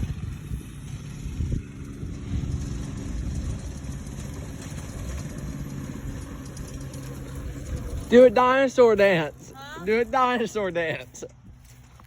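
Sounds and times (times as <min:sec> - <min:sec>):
small engine running at low revs: 0:00.0 - 0:12.0.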